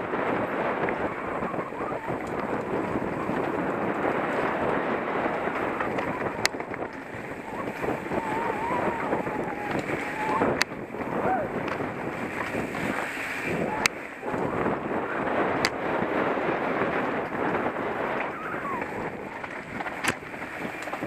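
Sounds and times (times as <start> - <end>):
tyre and trail rumble: 0.0 - 21.0
wind on microphone: 0.0 - 21.0.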